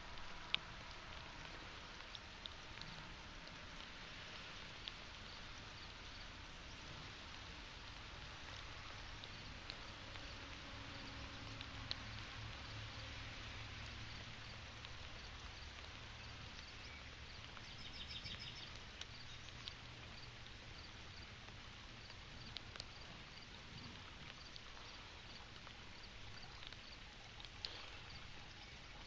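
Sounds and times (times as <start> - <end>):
soft hiss: 0.0 - 29.0
light ticks: 0.1 - 29.0.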